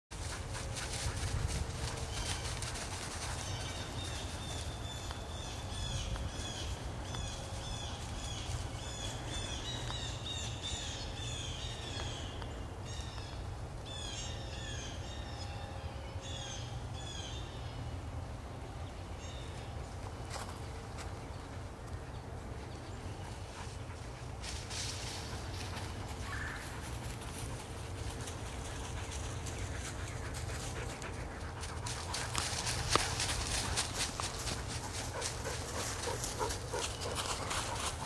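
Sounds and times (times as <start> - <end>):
songbirds chirping: 0.2 - 38.0.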